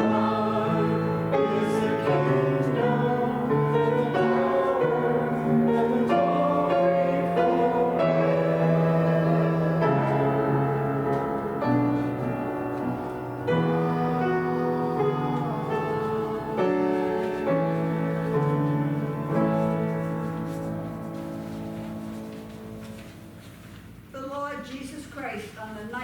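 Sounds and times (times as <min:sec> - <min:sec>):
slow keyboard chords: 0:00.0 - 0:23.0.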